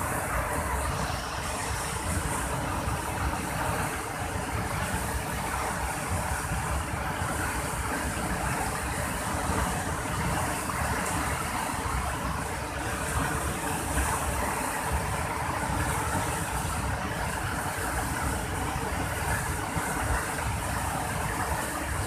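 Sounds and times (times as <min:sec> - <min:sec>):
turbulent water rushing: 0:00.0 - 0:22.0.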